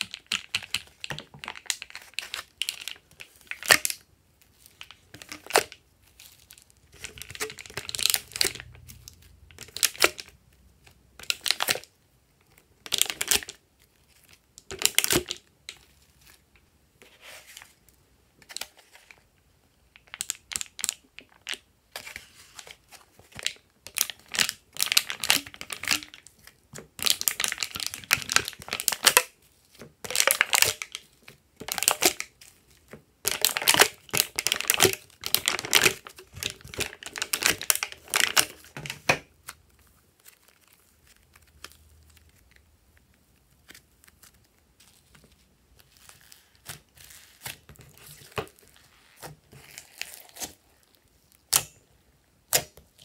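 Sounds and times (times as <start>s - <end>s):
slime crackling as squeezed: 0.0s - 16.6s, 19.9s - 53.0s
plastic cups crinkling: 0.0s - 51.9s.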